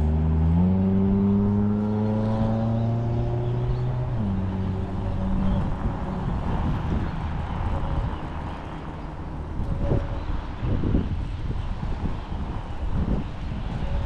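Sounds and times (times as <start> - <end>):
road rumble: 0.0 - 14.0
wind rushing over microphone: 0.2 - 14.0.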